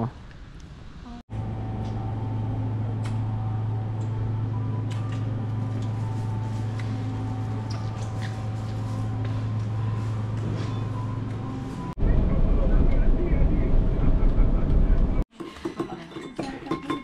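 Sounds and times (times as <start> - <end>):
low mechanical hum: 0.0 - 15.2.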